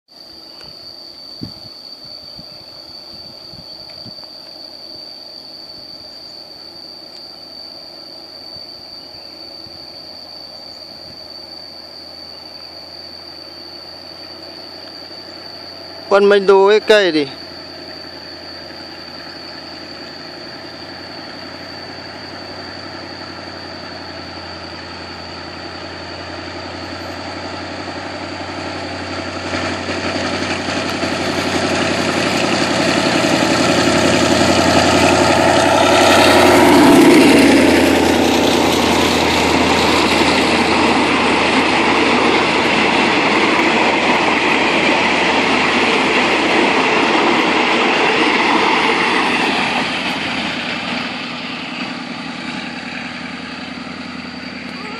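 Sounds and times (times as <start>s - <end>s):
diesel locomotive passing: 0.2s - 54.9s
train wheels rumbling on rails: 0.2s - 54.9s.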